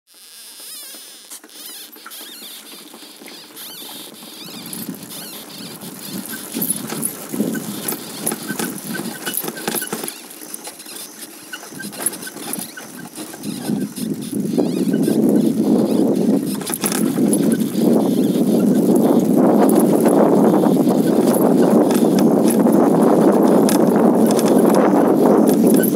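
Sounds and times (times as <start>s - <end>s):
crunching over a stony track: 0.6s - 25.9s.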